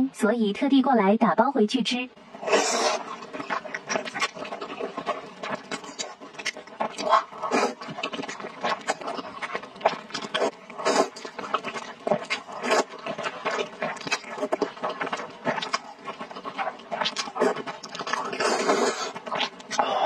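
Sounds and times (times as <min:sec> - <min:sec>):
person slurping noodles: 0:02.3 - 0:20.0
wet mouth clicks and smacks: 0:02.9 - 0:19.9.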